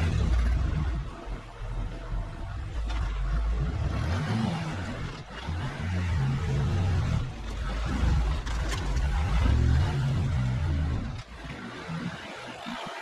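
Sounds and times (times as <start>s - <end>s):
truck engine running: 0.0s - 11.6s.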